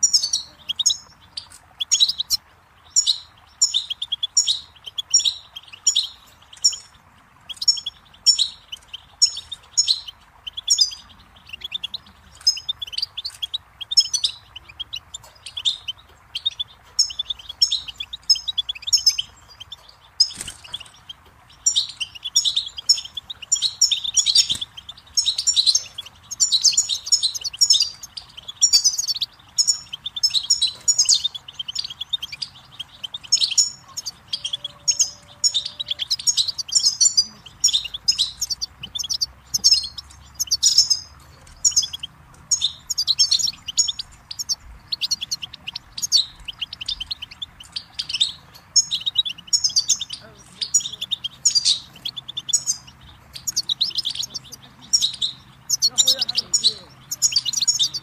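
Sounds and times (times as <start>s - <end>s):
goldfinch twittering song: 0.0s - 58.0s
stream rushing faintly: 0.0s - 58.0s.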